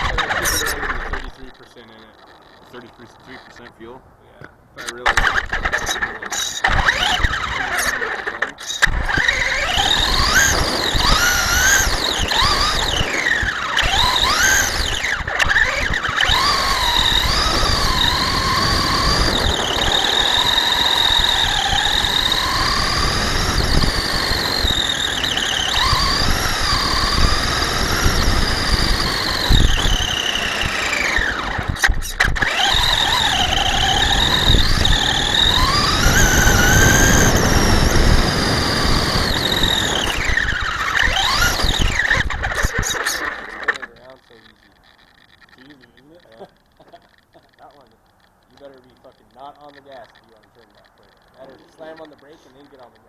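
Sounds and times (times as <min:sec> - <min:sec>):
rc truck motor whining: 0:00.0 - 0:03.8, 0:04.8 - 0:53.0.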